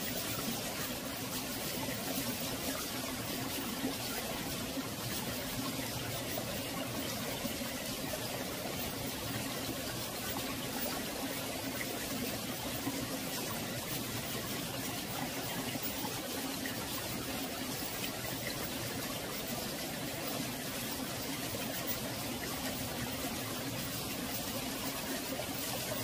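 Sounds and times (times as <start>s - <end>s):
stream flowing: 0.0s - 26.0s.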